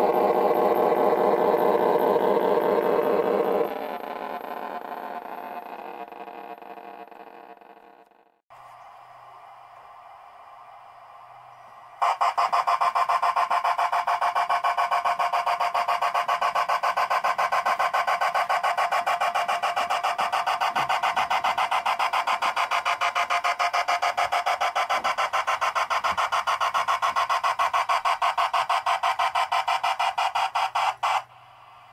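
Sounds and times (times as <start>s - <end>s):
model steam locomotive chuffing: 0.0s - 5.8s, 9.6s - 31.9s.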